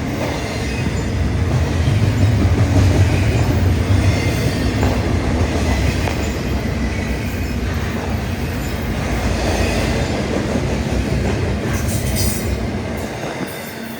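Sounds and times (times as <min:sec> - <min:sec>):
freight train wheels rumbling: 0:00.0 - 0:13.9.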